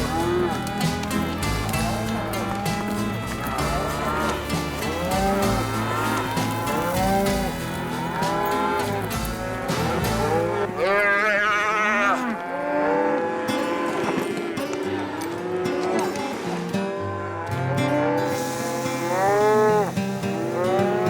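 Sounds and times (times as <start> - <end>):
cattle bawling: 0.0 - 16.2, 17.0 - 21.0.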